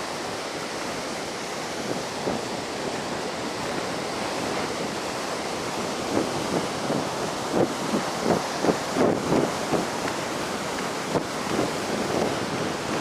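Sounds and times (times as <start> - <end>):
heavy surf breaking on beach: 0.0 - 13.0.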